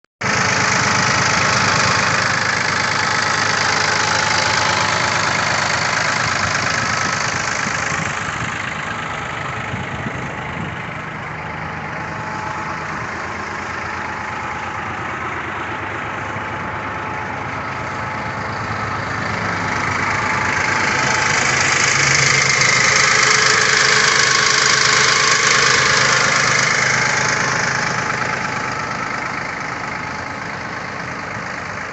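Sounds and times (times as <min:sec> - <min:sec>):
tractor diesel engine idling: 0:00.2 - 0:31.9.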